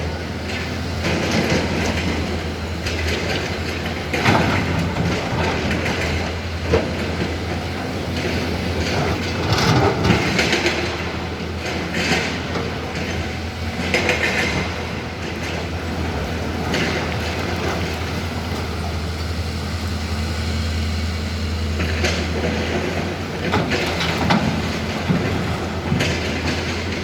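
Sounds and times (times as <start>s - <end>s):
diesel engine humming: 0.0s - 27.0s.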